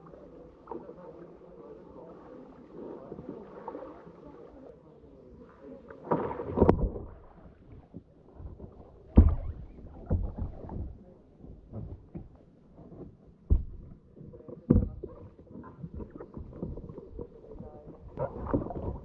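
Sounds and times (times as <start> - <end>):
water splashing against kayak hull: 0.0 - 19.0.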